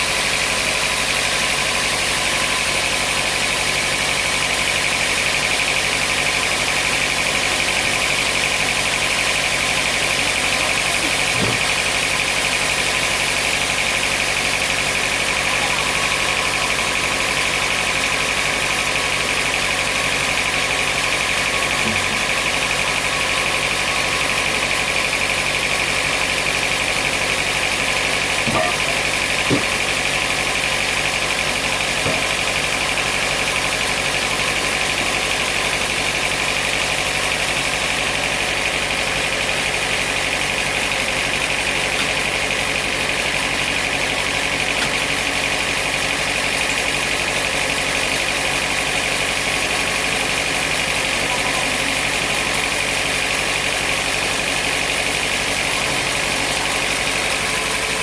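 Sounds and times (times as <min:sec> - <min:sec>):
high machine whine: 0:00.0 - 0:48.5
sawmill machinery drone: 0:00.0 - 0:58.0.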